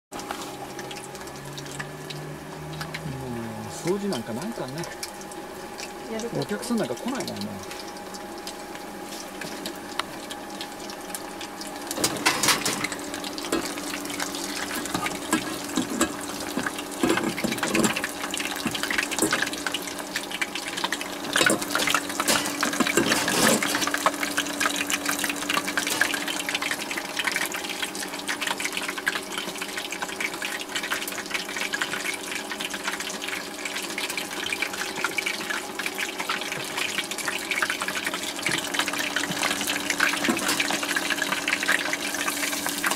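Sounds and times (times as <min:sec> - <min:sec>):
chicken sizzling in oil: 0:00.2 - 0:42.9.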